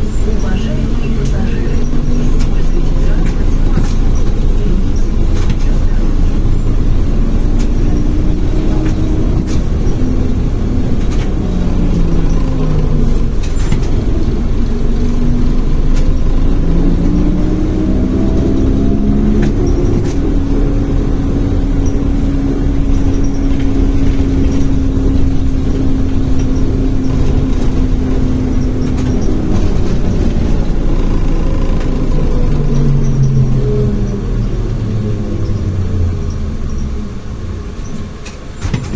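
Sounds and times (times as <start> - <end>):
clicks and rattles: 0.0 - 37.0
road rumble: 0.0 - 38.9
trolleybus motor whining: 0.0 - 38.9.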